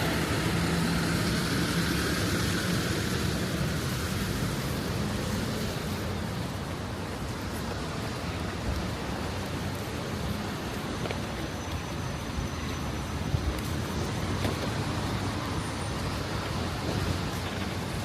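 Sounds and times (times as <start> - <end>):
rain: 0.0 - 18.0
traffic noise: 0.0 - 18.0.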